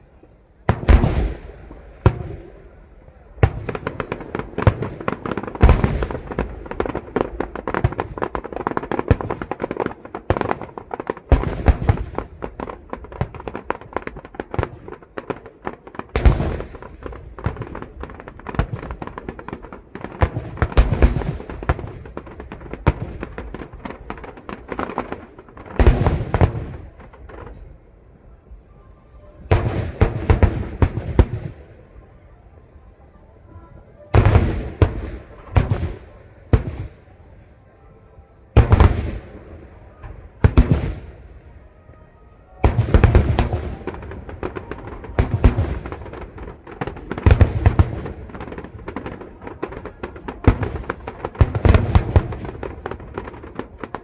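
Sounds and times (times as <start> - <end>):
fireworks crackling and popping: 0.0 - 54.0
loud firework bangs: 0.6 - 27.7, 29.4 - 31.8, 34.1 - 37.0, 38.6 - 41.6, 42.6 - 54.0.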